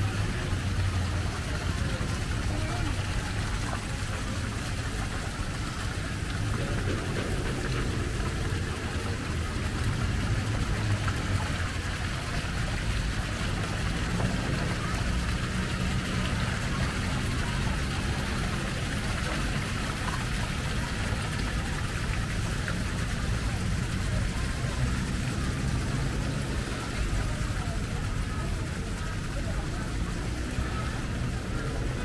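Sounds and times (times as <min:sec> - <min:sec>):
even wash of noise: 0:00.0 - 0:32.0
low hum of engines: 0:00.0 - 0:32.0.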